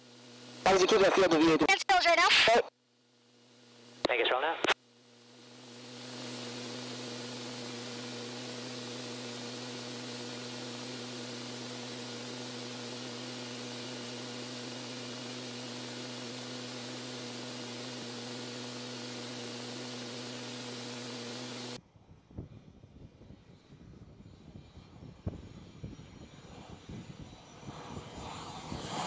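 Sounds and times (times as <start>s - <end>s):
jet aircraft noise in flight: 0.0s - 29.0s.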